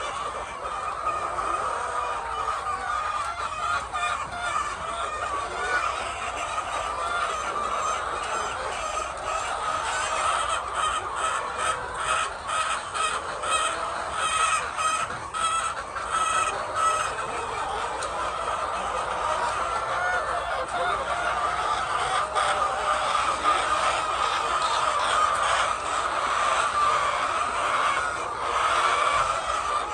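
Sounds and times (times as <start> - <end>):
hens clucking: 0.0 - 29.9.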